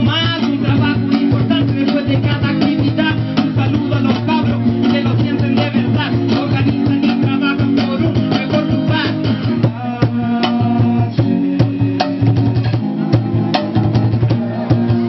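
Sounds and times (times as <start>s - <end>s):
rapping into microphone: 0.0s - 12.1s
bass line: 0.0s - 15.0s
live backing music: 0.0s - 15.0s.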